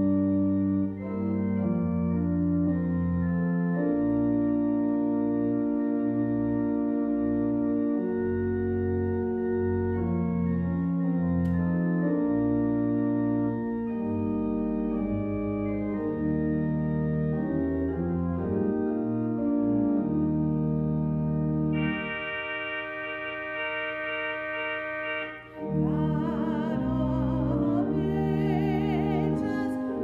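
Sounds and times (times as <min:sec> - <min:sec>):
church organ chords: 0:00.0 - 0:30.0.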